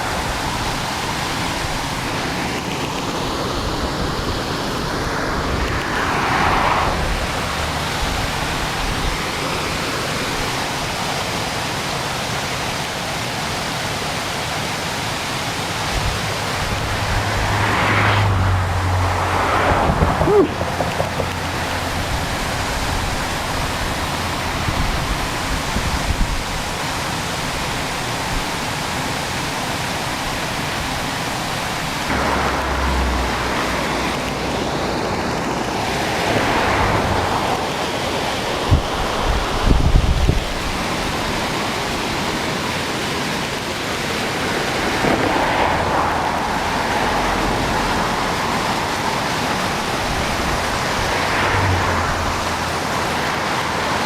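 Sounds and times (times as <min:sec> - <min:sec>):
water rushing over a weir: 0:00.0 - 0:54.0.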